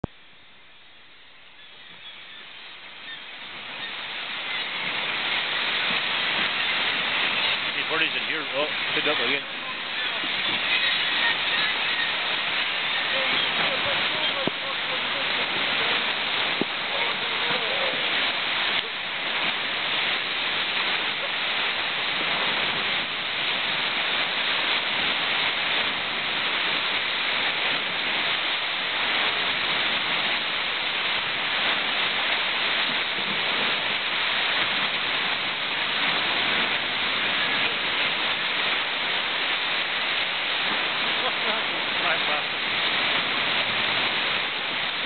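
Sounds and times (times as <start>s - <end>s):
water rushing past boat: 0.0s - 45.0s.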